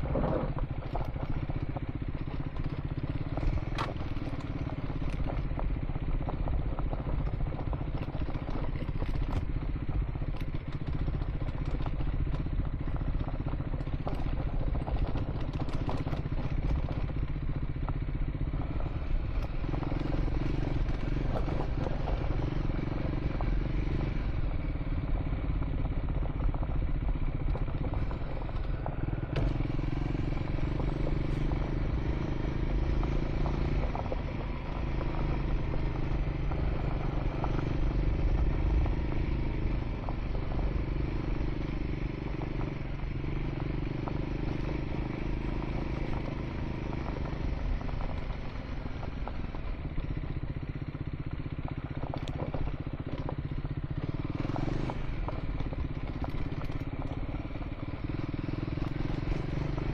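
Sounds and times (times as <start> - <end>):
motorcycle engine running: 0.0 - 59.9
stones clattering under tyres: 0.1 - 59.9.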